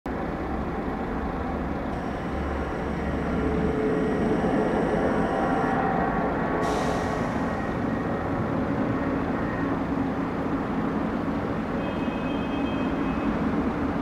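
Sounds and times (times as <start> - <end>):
jet engines taxiing rumble: 0.1 - 14.0.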